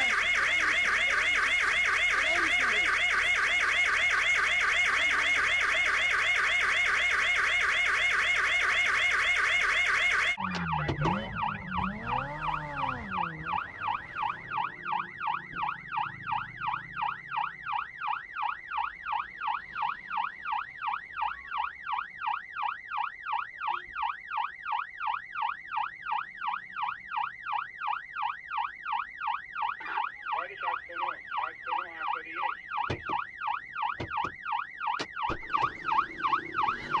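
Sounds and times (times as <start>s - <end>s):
police siren yelp: 0.0s - 37.0s.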